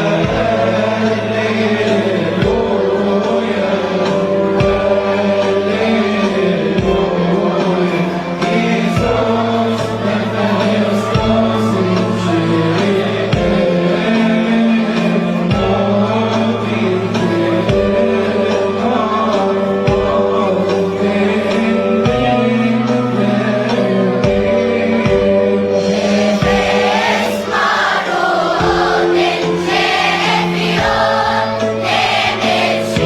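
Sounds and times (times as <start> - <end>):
choir singing a hymn: 0.0 - 33.0.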